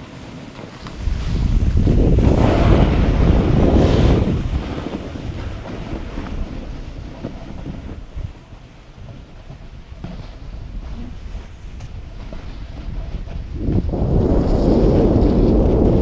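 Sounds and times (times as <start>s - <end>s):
wind buffeting microphone: 0.6s - 16.0s.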